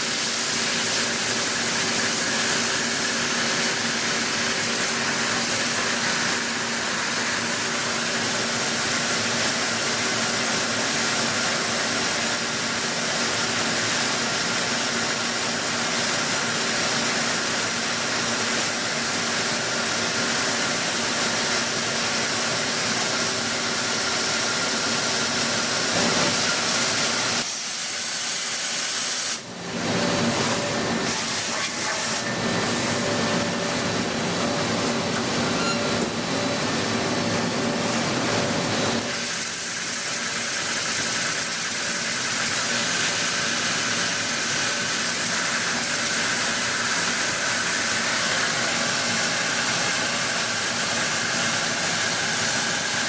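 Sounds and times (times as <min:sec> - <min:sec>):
cnc machine running with hiss: 0:00.0 - 0:53.0.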